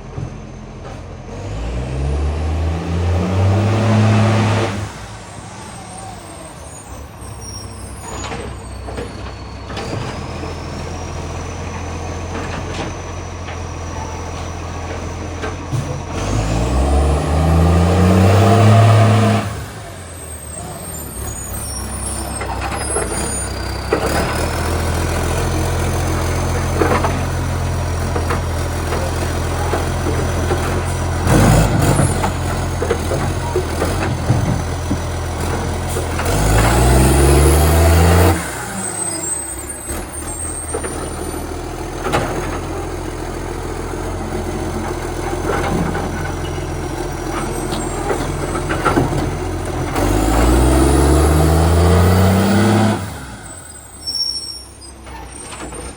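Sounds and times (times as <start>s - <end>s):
diesel engine idling and revving: 0.0s - 55.9s.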